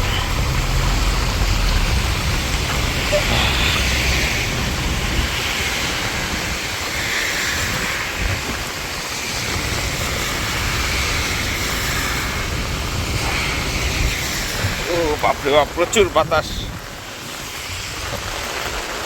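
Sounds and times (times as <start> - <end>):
heavy rain hiss: 0.0 - 19.0
wind buffeting microphone: 0.0 - 19.0.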